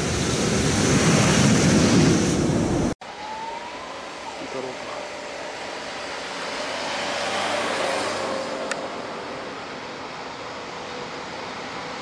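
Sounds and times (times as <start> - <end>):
rush of noise: 0.0 - 12.0.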